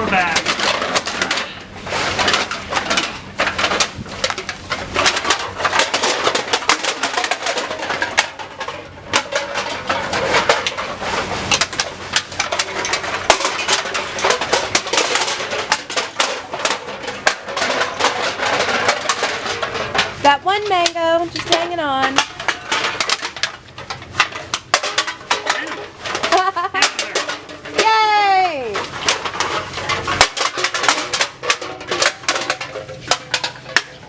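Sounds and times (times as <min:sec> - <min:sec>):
aluminium cans clattering: 0:00.0 - 0:34.0.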